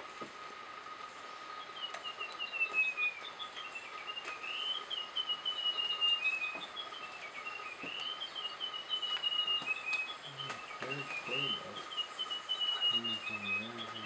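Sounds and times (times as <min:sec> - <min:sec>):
warbler singing: 0:00.0 - 0:14.0.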